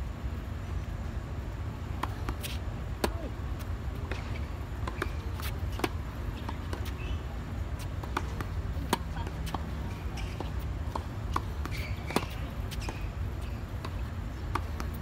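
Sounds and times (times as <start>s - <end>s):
tennis balls struck by rackets: 1.9s - 15.0s.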